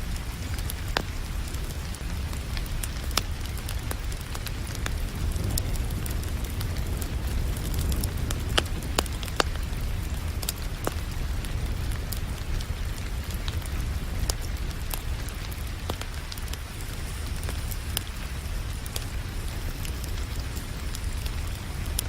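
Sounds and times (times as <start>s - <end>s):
rain hissing: 0.0s - 22.0s
wood fire crackling and popping: 0.0s - 22.0s.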